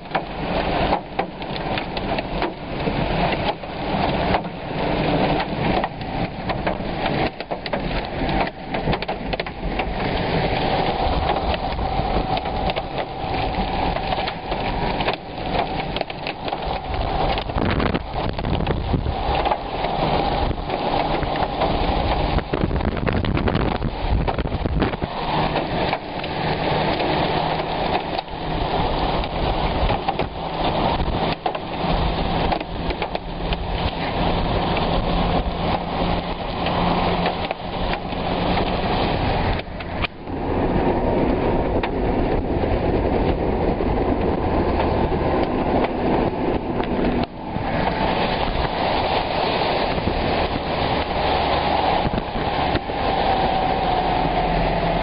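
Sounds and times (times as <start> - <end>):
gusting wind: 0.0 - 55.0
heavy rain on a car: 0.0 - 55.0.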